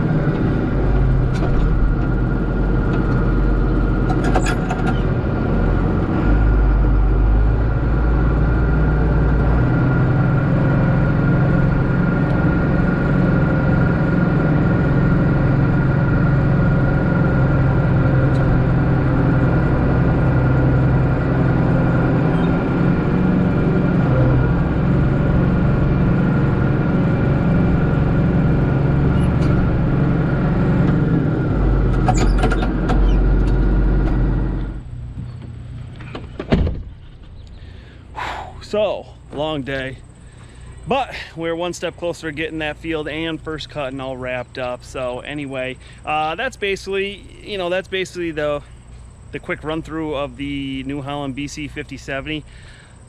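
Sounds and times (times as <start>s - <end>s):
constant whine: 0.0s - 53.0s
tractor diesel engine running: 0.0s - 53.0s.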